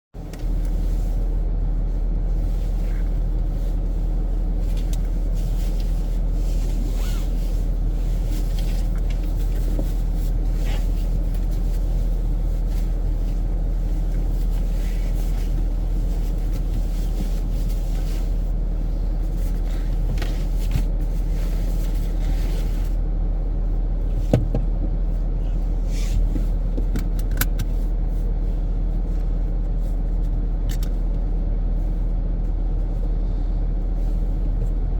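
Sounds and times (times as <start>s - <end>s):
car engine and road noise: 0.1s - 34.9s.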